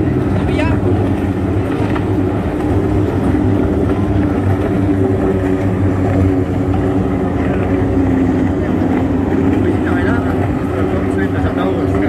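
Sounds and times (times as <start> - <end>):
racing powerboat outboard engines: 0.0 - 12.0.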